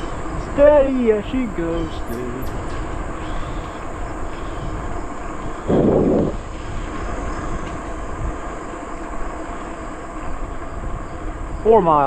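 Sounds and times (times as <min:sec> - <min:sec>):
bicycle tyres on a trail: 0:00.0 - 0:12.0
insects buzzing: 0:00.0 - 0:12.0
wind noise: 0:00.0 - 0:12.0.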